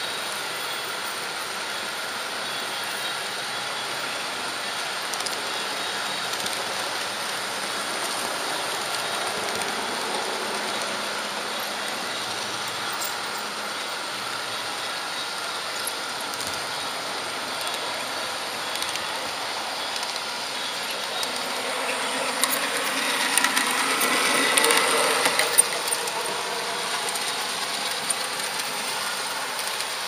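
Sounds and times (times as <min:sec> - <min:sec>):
model train running on track: 0:00.0 - 0:30.0.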